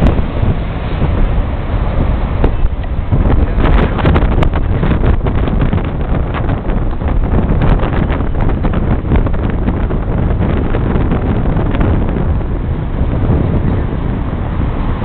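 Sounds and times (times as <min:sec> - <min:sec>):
city traffic rumble: 0:00.0 - 0:15.0
wind buffeting microphone: 0:00.0 - 0:15.0.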